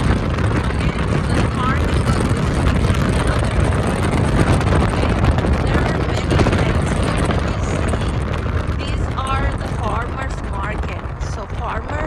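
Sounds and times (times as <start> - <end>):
car road noise rumble: 0.0 - 12.0
wind rushing: 0.0 - 12.0.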